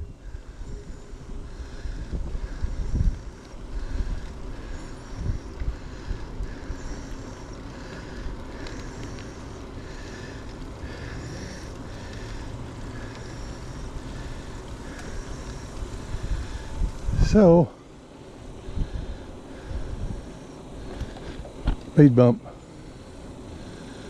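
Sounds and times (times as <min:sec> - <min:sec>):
wind buffeting microphone: 0:00.0 - 0:17.7, 0:18.3 - 0:21.9
bicycle road rumble: 0:00.0 - 0:24.0.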